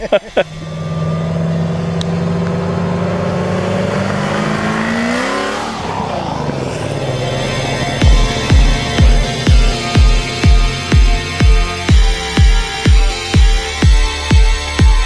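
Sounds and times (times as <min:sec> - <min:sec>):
car engine accelerating past: 0:00.4 - 0:12.8.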